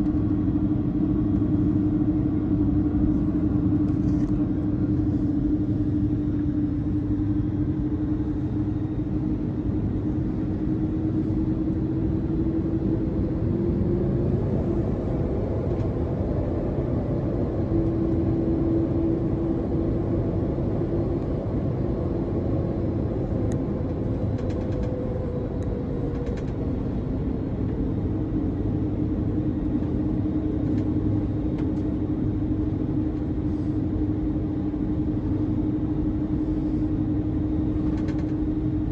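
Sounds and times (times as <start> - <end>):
airliner cabin engine and airflow noise: 0.0 - 38.9.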